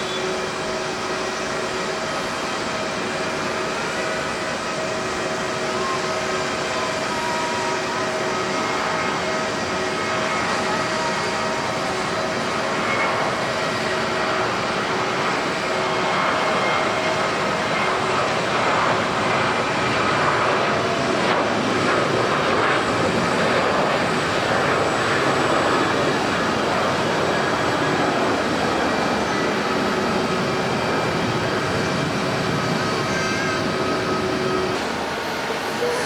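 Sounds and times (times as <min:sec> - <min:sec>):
jet engines roaring: 0:00.0 - 0:36.0
whining jet tones: 0:00.0 - 0:36.0.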